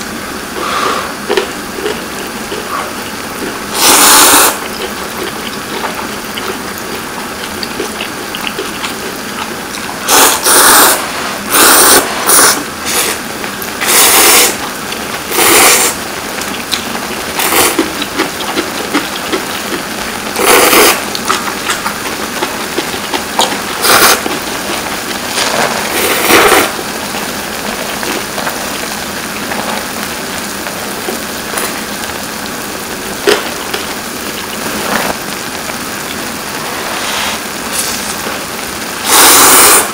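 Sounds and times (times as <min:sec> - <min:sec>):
quiet eating noises: 0:00.4 - 0:39.8
loud noodle slurping: 0:00.5 - 0:35.2, 0:36.1 - 0:39.9.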